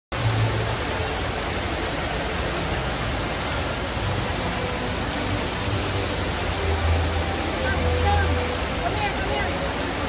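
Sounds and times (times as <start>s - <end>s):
fountain water splashing: 0.1s - 10.0s.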